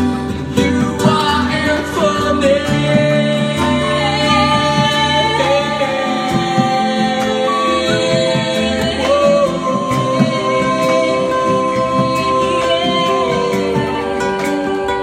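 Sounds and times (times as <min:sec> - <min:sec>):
person singing: 0:00.0 - 0:15.0
strummed acoustic guitar: 0:00.0 - 0:15.0.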